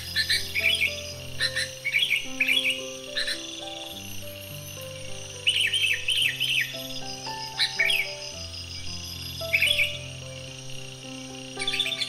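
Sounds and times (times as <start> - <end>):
bird singing chirping phrases: 0.0 - 12.0
soft background music: 0.0 - 12.0.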